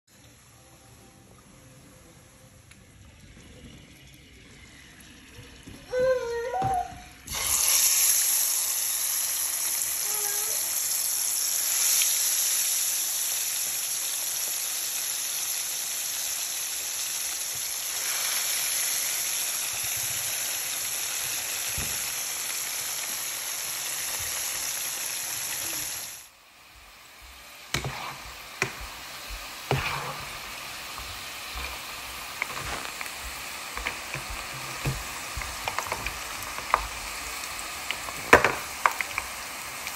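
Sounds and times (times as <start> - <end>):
potato chips frying in oil: 2.8 - 39.9
hot oil sizzling in a pan: 3.0 - 39.9.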